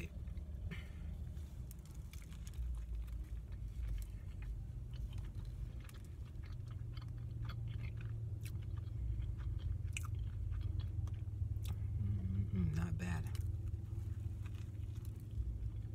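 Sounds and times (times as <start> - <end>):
person chewing a sandwich: 0.0 - 12.5, 13.2 - 15.9
steady low hum: 0.0 - 15.9.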